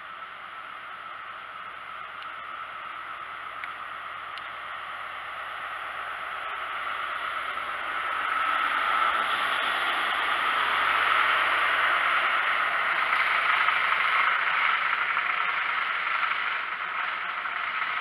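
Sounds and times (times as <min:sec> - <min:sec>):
diesel locomotive engine passing: 0:00.0 - 0:18.0.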